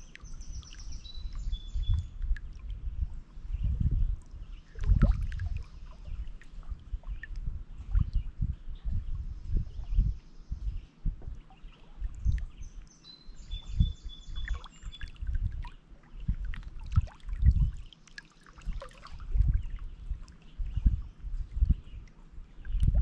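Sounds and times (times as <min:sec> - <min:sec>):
birds singing: 0:00.0 - 0:02.4, 0:03.5 - 0:23.0.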